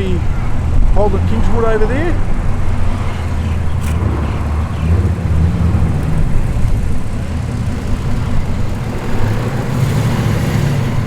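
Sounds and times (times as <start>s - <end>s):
car engines idling lumpy: 0.0s - 11.0s.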